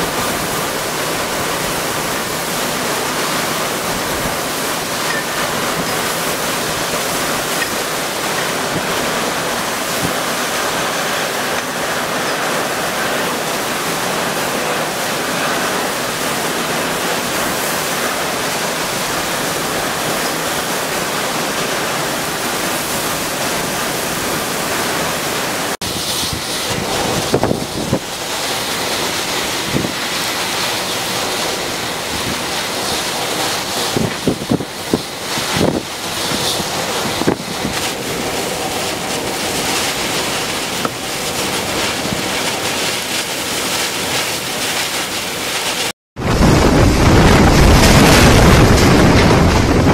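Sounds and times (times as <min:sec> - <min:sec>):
wind buffeting microphone: 0:00.0 - 0:43.8, 0:46.2 - 0:49.9
heavy water rushing: 0:00.0 - 0:49.9
wind: 0:00.0 - 0:49.9.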